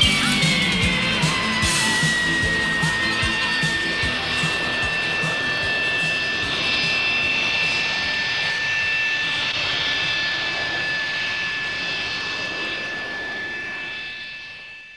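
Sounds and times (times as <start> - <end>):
jet engine whine: 0.0 - 14.9.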